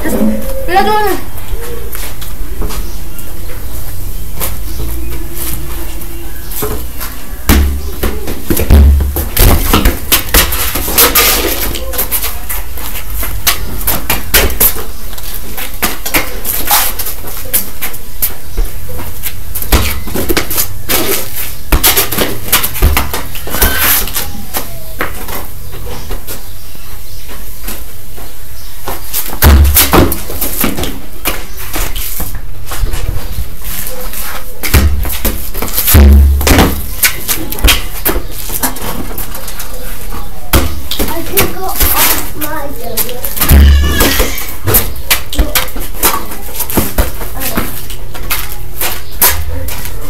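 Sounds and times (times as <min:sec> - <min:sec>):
soccer ball thudding on concrete: 0:00.0 - 0:03.7, 0:04.3 - 0:50.0.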